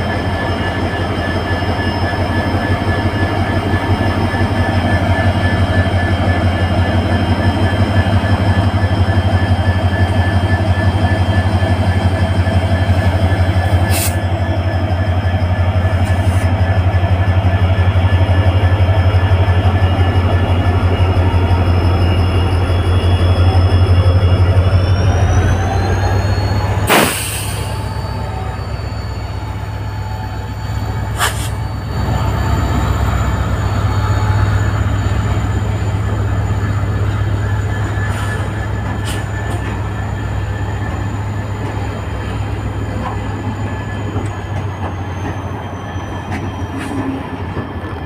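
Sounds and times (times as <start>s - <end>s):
train coaches rumbling past: 0.0s - 48.0s.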